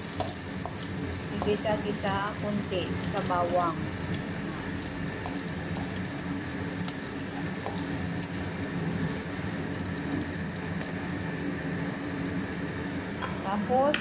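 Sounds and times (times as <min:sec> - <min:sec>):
vegetables sizzling in hot oil: 0:00.0 - 0:13.9.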